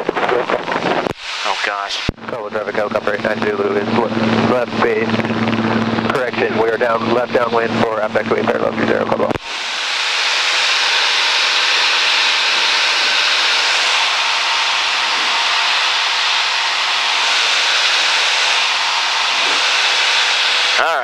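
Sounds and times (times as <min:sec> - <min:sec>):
airplane cabin noise hiss: 0:00.0 - 0:09.7, 0:11.4 - 0:21.0.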